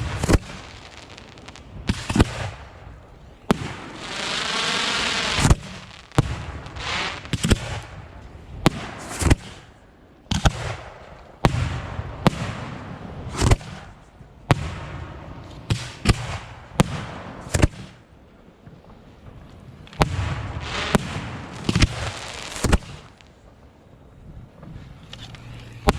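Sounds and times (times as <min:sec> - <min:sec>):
fireworks bangs: 0:00.0 - 0:09.7, 0:10.3 - 0:23.7, 0:24.4 - 0:25.9
fireworks hissing and crackle: 0:00.0 - 0:25.9.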